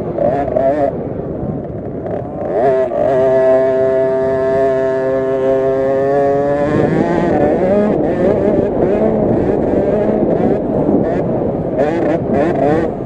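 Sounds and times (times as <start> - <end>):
two-stroke engine revving: 0.0 - 13.0.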